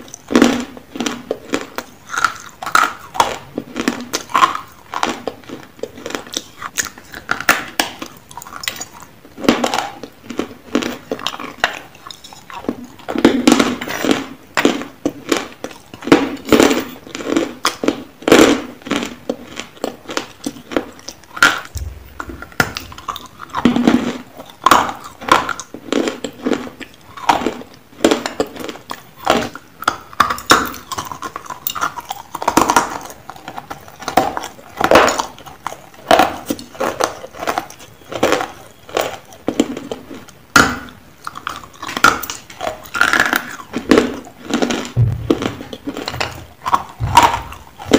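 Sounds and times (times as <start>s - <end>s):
crunching and chewing chalk: 0.0s - 47.9s.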